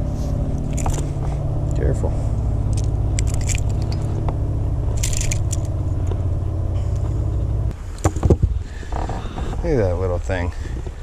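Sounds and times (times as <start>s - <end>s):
handling clicks and scrapes: 0.0s - 9.6s
boat motor humming: 0.0s - 11.0s.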